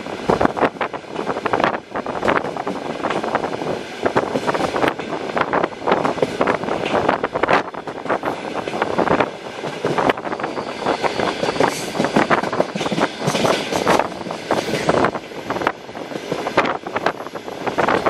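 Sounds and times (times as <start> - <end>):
train rushing noise: 0.0 - 18.0
train wheels rattling and knocking: 0.2 - 18.0.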